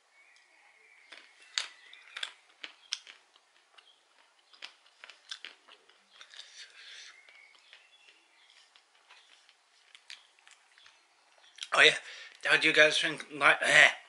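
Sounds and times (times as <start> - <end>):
peanuts being chewed: 0.3 - 12.4.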